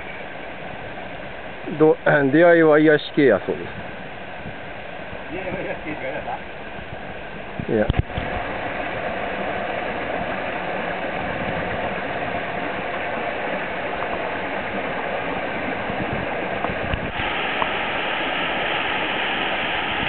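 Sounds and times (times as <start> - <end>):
stream rushing over cascades: 0.0 - 20.0.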